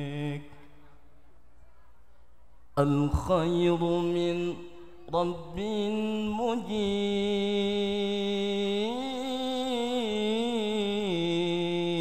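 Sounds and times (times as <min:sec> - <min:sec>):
man singing: 0:00.0 - 0:00.9, 0:02.8 - 0:12.0.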